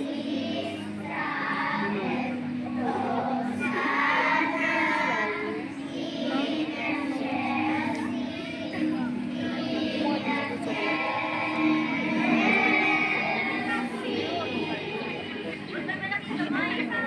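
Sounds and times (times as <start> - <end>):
girls singing together: 0.0 - 15.6
steady low tone: 0.0 - 15.6.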